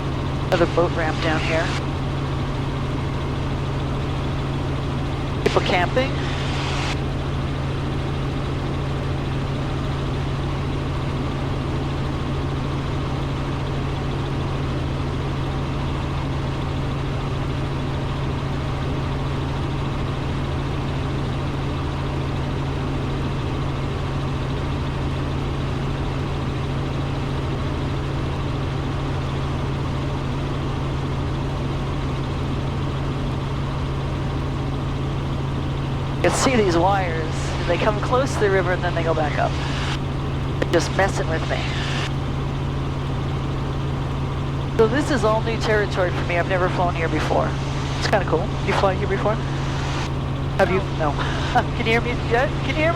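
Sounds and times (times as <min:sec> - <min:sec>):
helicopter engine and rotors drone: 0:00.0 - 0:52.9.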